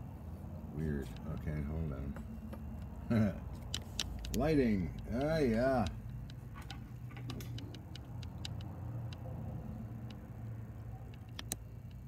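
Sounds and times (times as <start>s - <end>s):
steady low hum: 0.0s - 12.0s
light clicks and ticks: 0.9s - 12.0s.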